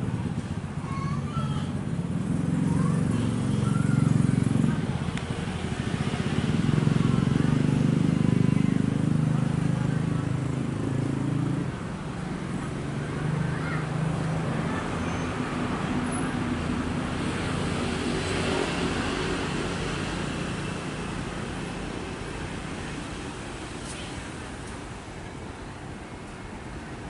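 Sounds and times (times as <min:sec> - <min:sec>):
locomotive engine drone: 0:01.7 - 0:27.0.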